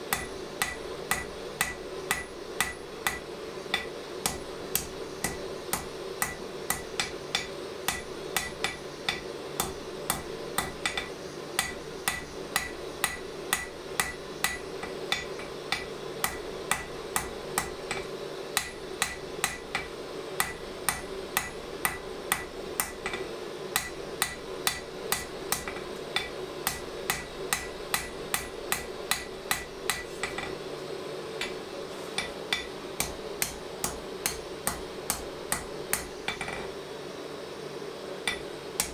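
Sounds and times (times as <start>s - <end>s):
steady low hum: 0.0s - 38.9s
hammer striking metal on anvil: 0.1s - 30.6s, 31.4s - 31.6s, 32.2s - 36.7s, 38.3s - 38.9s.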